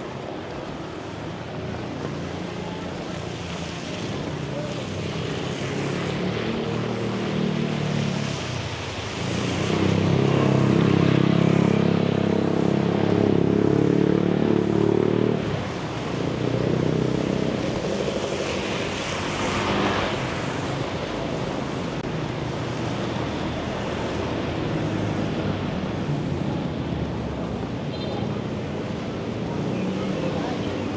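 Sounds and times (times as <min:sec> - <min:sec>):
tyres hissing on wet road: 0:00.0 - 0:30.9.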